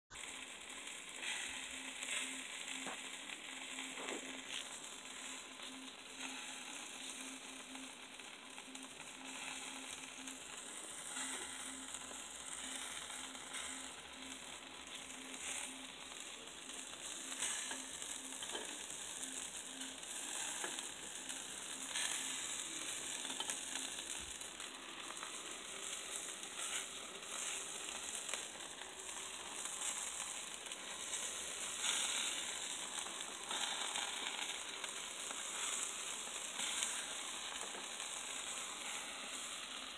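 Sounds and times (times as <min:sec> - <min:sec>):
chicken sizzling on a grill: 0:00.1 - 0:39.9.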